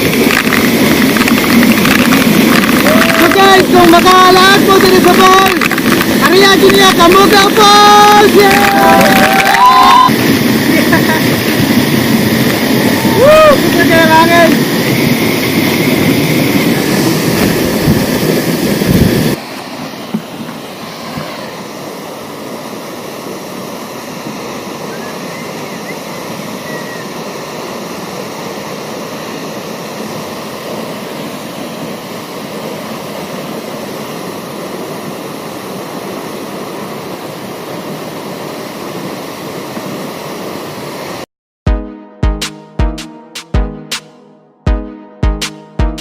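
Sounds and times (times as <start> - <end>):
waterfall rushing: 0.0 - 41.2.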